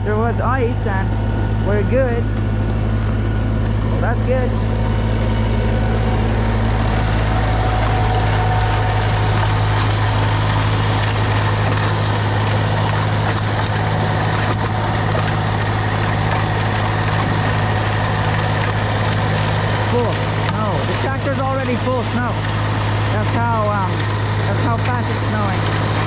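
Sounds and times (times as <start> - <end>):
tractor engine humming: 0.0 - 26.0.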